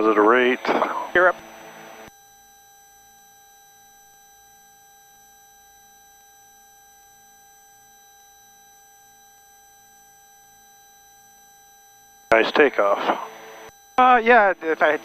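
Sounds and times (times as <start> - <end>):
faint electronic whine: 0.0 - 15.0.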